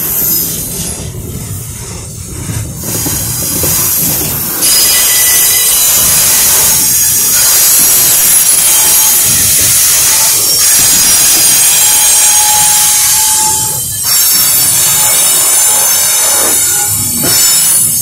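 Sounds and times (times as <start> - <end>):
train wheels clattering on rails: 0.0 - 18.0
thin wheel squeals: 3.4 - 18.0.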